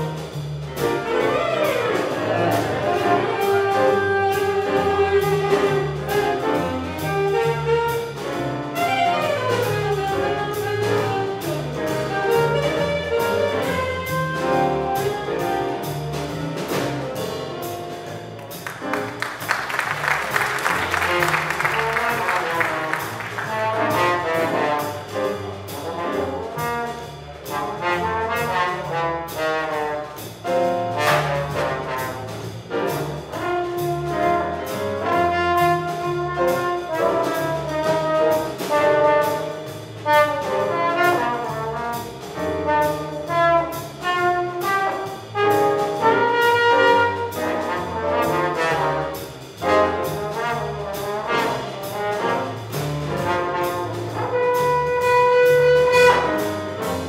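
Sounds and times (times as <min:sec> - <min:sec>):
piano: 0:00.0 - 0:57.0
upright bass: 0:00.0 - 0:57.0
horns playing melody: 0:00.8 - 0:16.7, 0:18.0 - 0:57.0.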